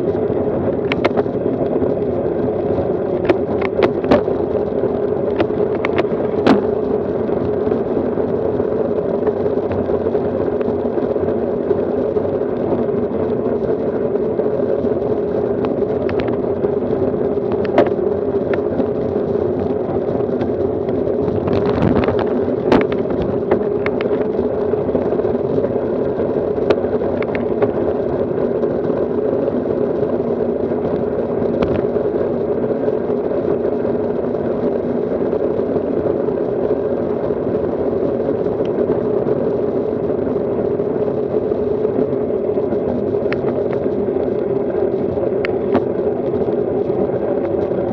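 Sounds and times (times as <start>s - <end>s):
bicycle road vibration: 0.0s - 47.9s.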